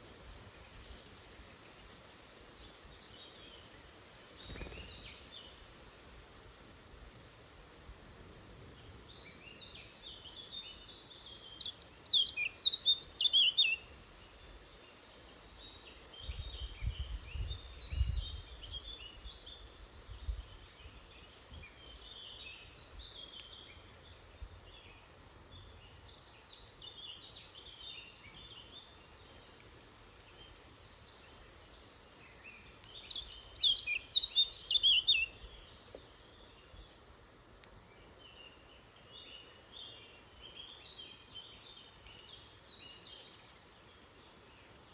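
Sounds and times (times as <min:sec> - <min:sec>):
songbirds singing and calling: 0:00.0 - 0:06.3, 0:08.6 - 0:44.9.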